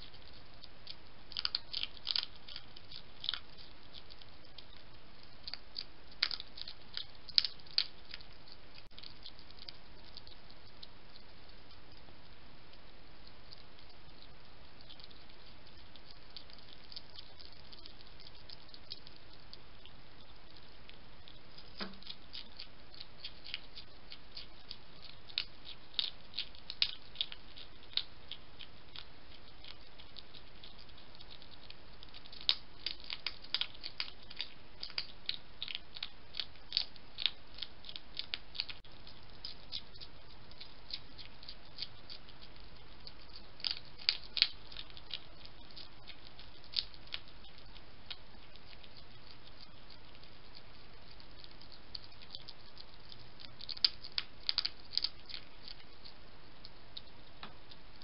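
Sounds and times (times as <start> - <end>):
hedgehog crunching food: 0.0 - 58.0.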